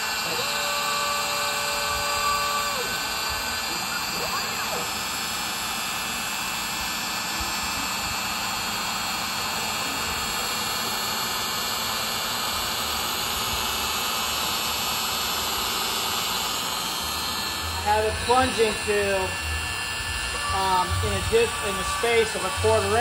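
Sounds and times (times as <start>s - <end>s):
router whining while cutting wood: 0.0s - 23.0s.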